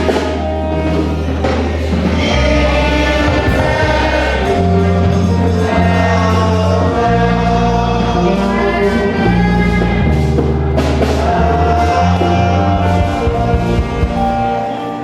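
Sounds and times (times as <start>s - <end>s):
deep bass line: 0.0s - 15.0s
gospel band music: 0.0s - 15.0s.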